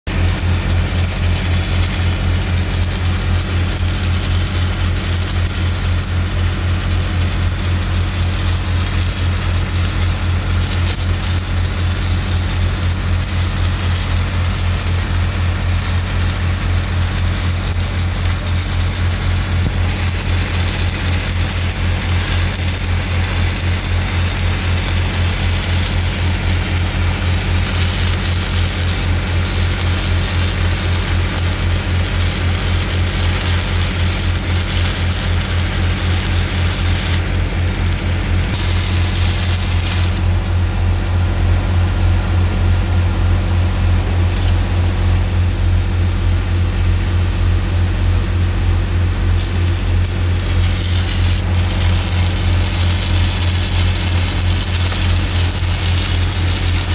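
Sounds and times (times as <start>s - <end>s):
welding arc crackling and hissing: 0.1s - 40.9s, 43.8s - 45.3s, 48.8s - 56.9s.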